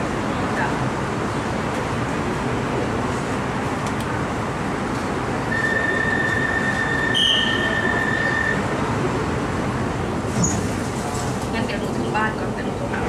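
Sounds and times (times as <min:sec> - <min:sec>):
train rumble from inside: 0:00.0 - 0:13.0.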